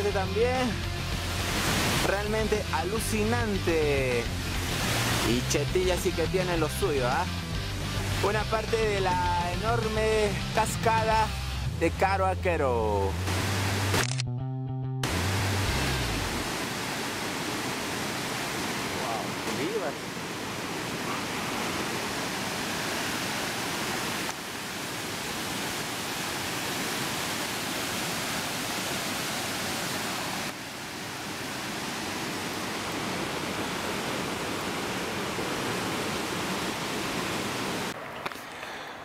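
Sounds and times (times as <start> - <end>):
waterfall rushing: 0.0 - 11.1, 13.0 - 14.0, 15.0 - 38.0.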